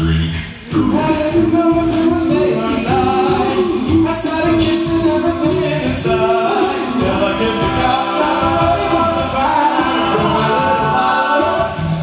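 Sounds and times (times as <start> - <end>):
male vocal group singing harmony: 0.6 - 12.0.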